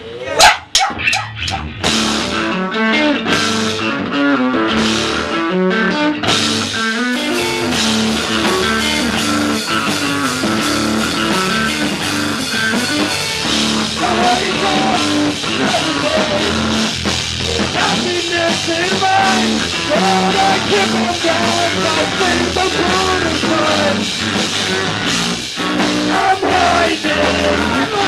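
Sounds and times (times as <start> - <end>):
drums and cymbals: 0.7 - 2.4, 6.2 - 28.0
guitar chords: 0.7 - 28.0.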